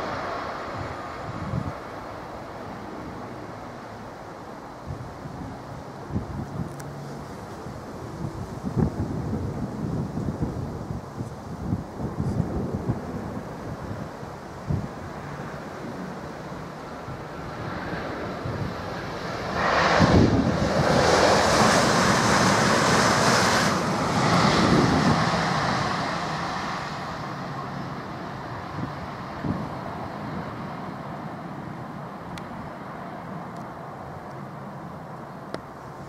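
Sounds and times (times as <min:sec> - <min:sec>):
wind noise on microphone: 0:00.0 - 0:02.0, 0:04.8 - 0:32.8
high-speed train passing: 0:00.0 - 0:36.0.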